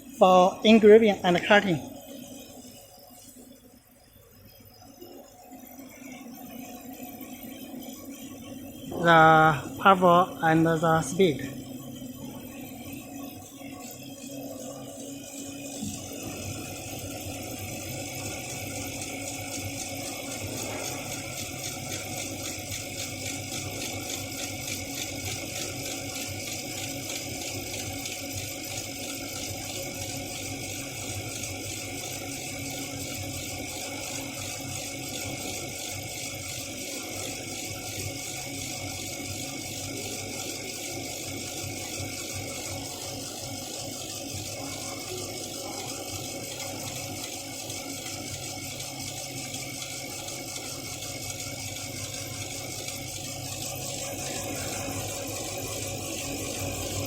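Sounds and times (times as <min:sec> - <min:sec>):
laser engraver whirring and rattling: 0:00.0 - 0:57.0
machine fans: 0:05.3 - 0:57.0.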